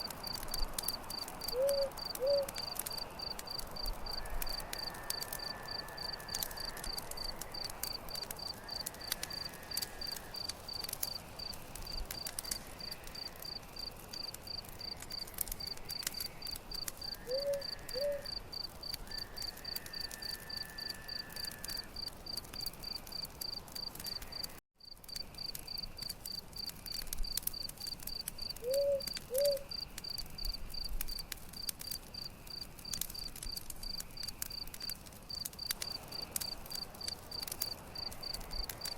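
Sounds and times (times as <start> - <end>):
campfire crackling: 0.0 - 38.9
crickets chirping: 0.0 - 38.9.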